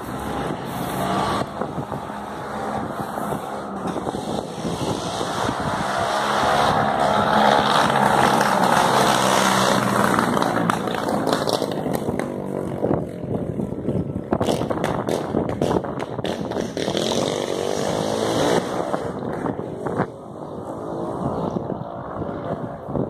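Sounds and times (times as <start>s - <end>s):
motor vehicle passing: 0.0s - 23.0s.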